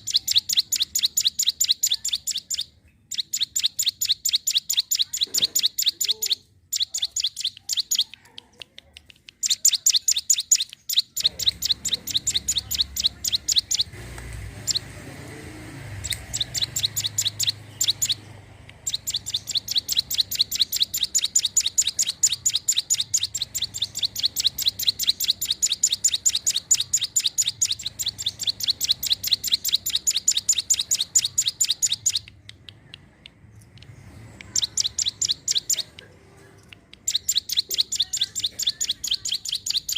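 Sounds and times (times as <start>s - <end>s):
bird singing rapid high chirps: 0.0s - 8.3s, 9.0s - 36.0s, 36.8s - 39.9s.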